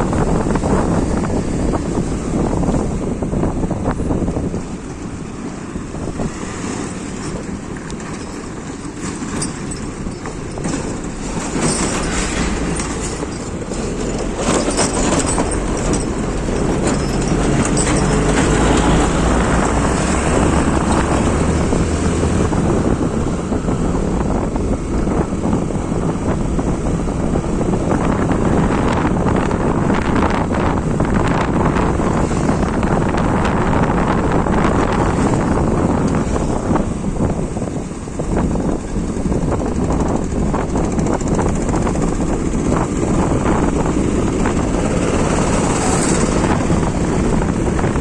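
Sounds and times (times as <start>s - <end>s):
motorcycle engine drone: 0.0s - 48.0s
wind and road noise: 0.0s - 48.0s.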